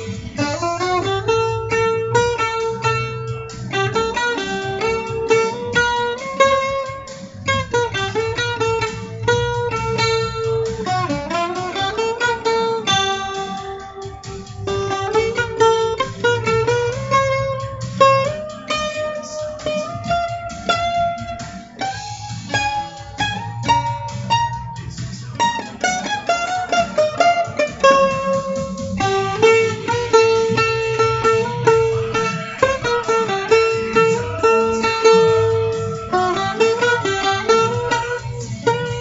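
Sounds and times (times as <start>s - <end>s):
guitar picking melody: 0.0s - 39.0s
steady low backing: 0.0s - 39.0s.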